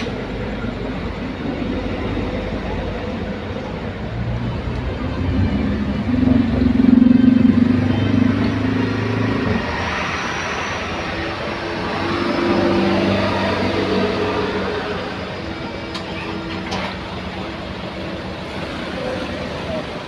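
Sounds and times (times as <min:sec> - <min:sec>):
second engine hum: 0:02.0 - 0:20.0.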